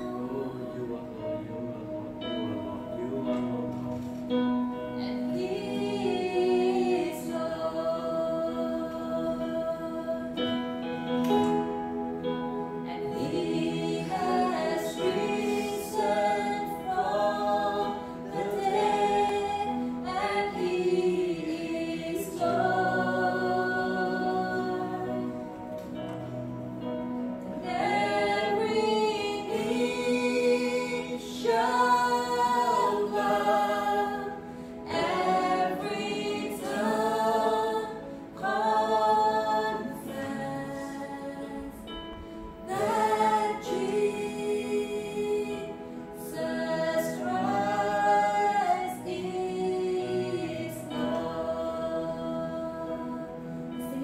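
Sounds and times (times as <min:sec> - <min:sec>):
choir singing a worship song: 0:00.0 - 0:54.0.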